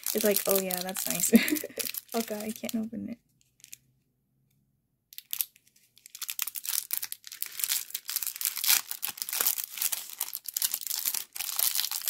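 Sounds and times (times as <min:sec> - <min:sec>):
cellophane crinkling: 0:00.0 - 0:03.9, 0:05.2 - 0:12.0.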